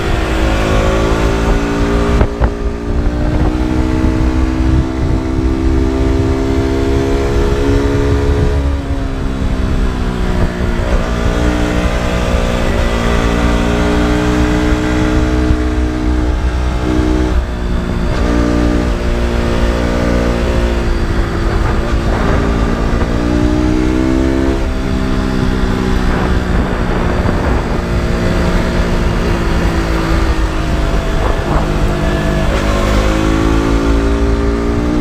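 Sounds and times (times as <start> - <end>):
motorcycle engine and exhaust: 0.0 - 35.0.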